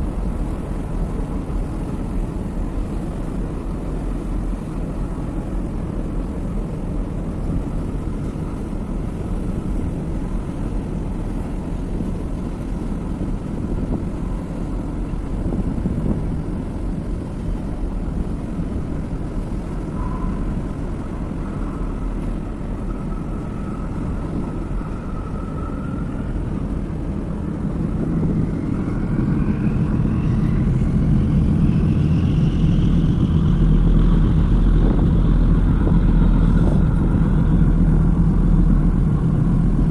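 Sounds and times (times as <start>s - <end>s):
rising engine whine: 0.0s - 39.9s
ship engines rumbling: 0.0s - 39.9s
wind on microphone: 0.0s - 39.9s.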